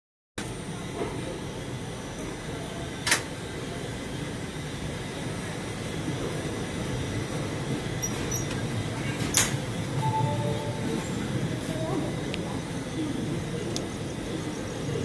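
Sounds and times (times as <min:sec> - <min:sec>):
train coaches rumbling past: 0:00.4 - 0:15.0.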